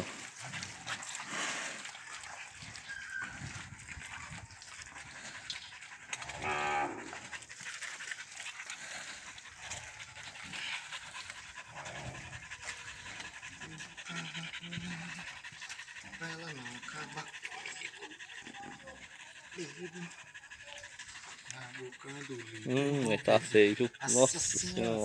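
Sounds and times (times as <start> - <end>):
dog panting: 0.0 - 25.0.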